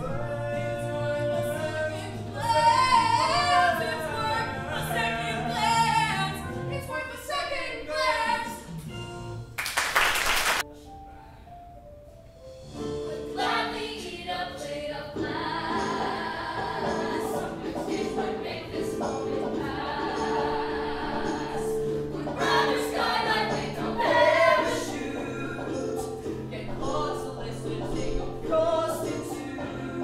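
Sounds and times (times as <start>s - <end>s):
young voices singing together: 0.0s - 8.7s, 13.1s - 30.0s.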